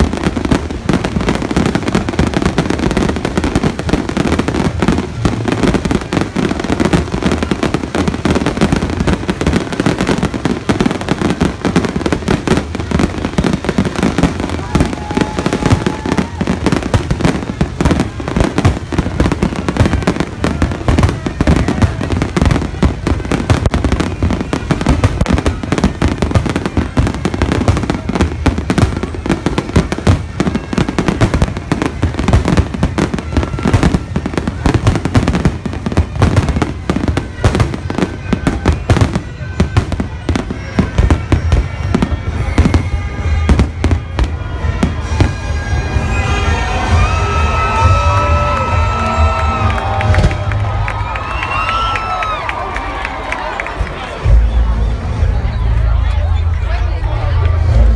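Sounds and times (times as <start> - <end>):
fireworks bursting with booms and crackle: 0.0 - 57.9.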